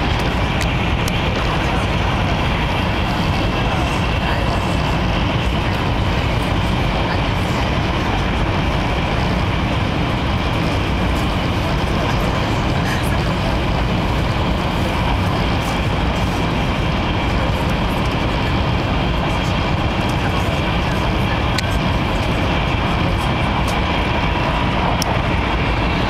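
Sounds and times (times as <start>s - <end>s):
train cabin rumble and rushing: 0.0s - 26.0s.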